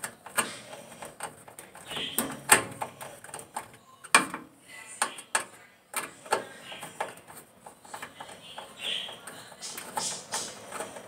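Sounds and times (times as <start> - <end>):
metal parts clicking and knocking: 0.0 - 11.0.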